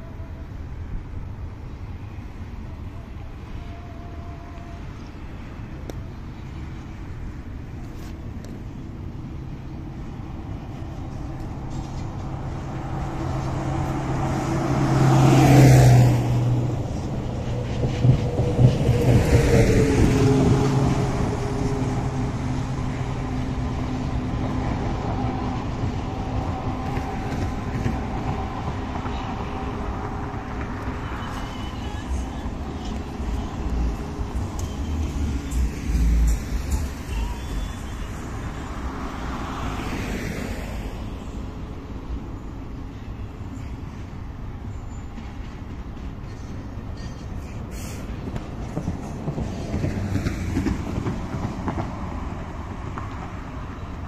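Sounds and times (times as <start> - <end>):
freight train rumbling over bridge: 0.0 - 54.0
road vehicles passing: 0.0 - 54.0.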